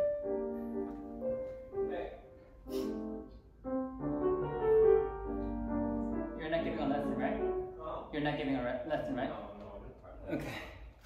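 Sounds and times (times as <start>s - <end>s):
piano music: 0.0s - 9.5s.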